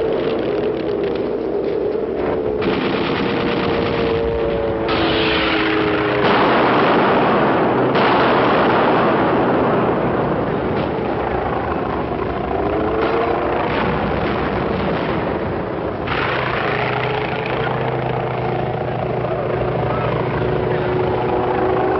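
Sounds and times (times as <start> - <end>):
dense rushing noise: 0.0 - 21.9
propeller plane flying overhead: 0.0 - 21.9.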